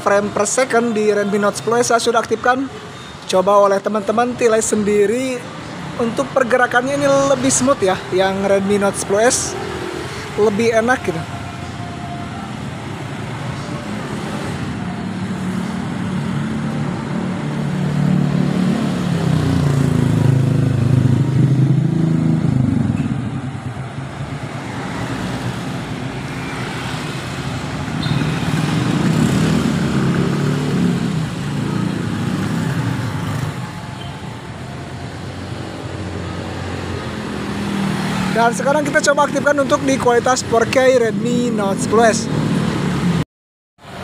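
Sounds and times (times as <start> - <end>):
motorcycles and cars passing: 0.0 - 43.2
steady traffic hum: 0.0 - 43.2, 43.8 - 44.0.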